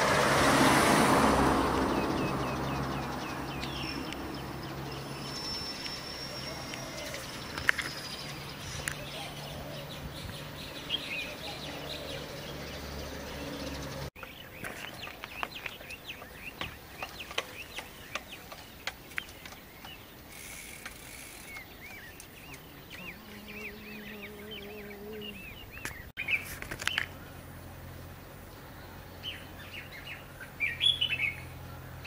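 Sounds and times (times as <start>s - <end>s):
small birds chirping: 1.8s - 32.0s.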